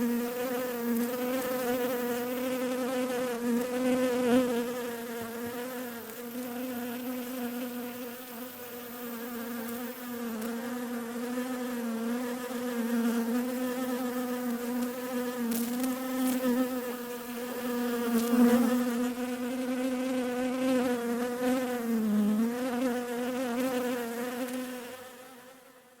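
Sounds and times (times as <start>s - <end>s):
bees buzzing: 0.0s - 25.7s.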